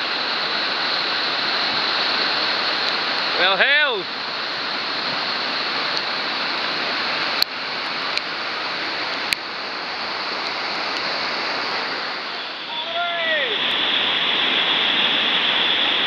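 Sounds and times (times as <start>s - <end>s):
whitewater rushing over weir: 0.0s - 16.0s.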